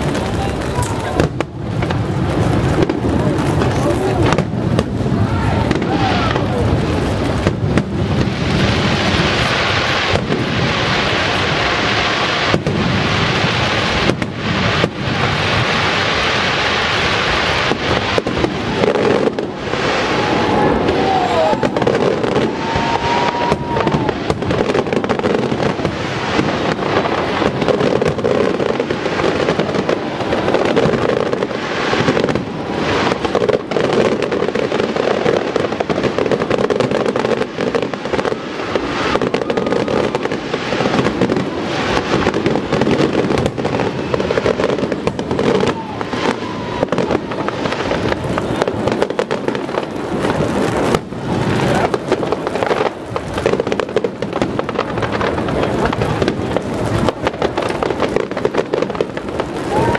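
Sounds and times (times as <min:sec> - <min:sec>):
fireworks bangs: 0:00.0 - 0:59.9
fireworks crackling and popping: 0:00.0 - 0:59.9.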